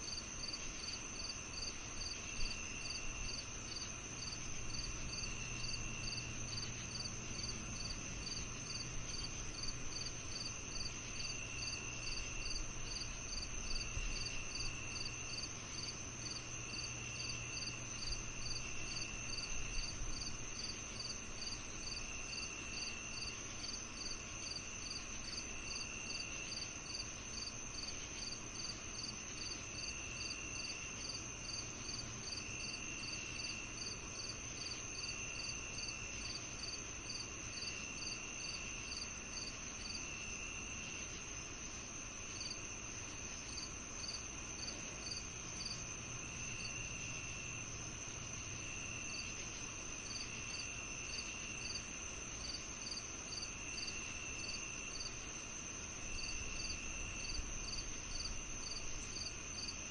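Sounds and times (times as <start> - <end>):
high steady cricket trill: 0.0 - 59.9
insect chirping evenly: 0.0 - 59.9.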